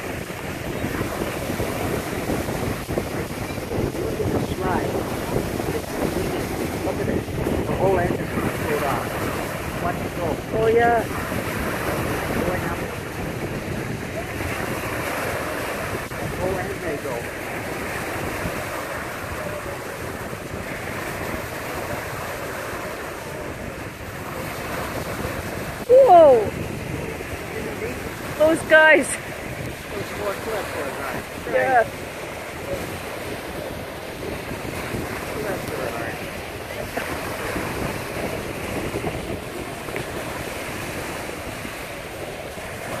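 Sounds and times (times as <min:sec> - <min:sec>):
waves breaking on shore: 0:00.0 - 0:43.0
wind buffeting microphone: 0:00.0 - 0:43.0.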